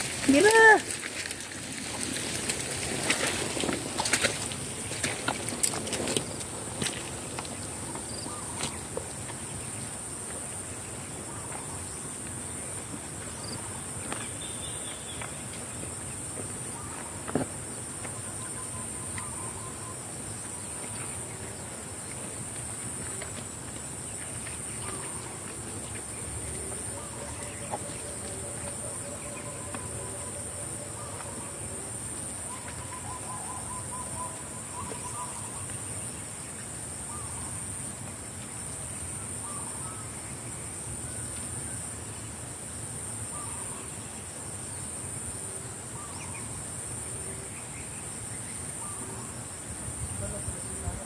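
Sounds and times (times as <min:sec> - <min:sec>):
high-pitched insect chorus: 0:00.0 - 0:51.0.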